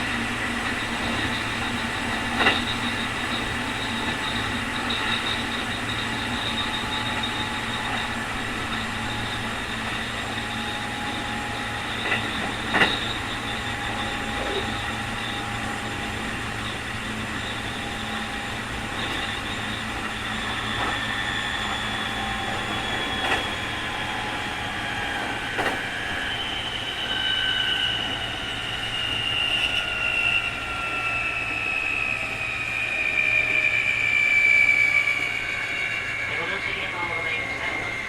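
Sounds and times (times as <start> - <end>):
train running rumble: 0.0 - 38.0
train traction motor whine: 0.0 - 38.0.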